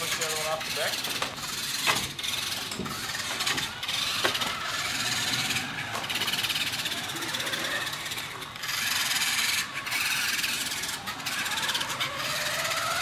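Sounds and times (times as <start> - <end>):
rc car motor whining: 0.0 - 13.0.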